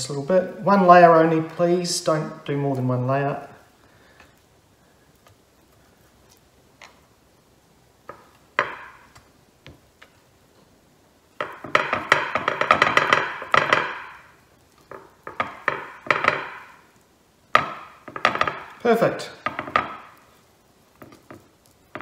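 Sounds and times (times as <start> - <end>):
breadcrumbs crackling: 1.2 - 22.0.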